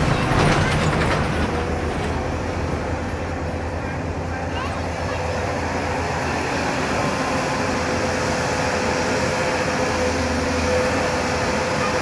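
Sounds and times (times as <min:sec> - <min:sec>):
constant whine: 0:00.0 - 0:12.0
excavator diesel engine running: 0:00.0 - 0:12.0.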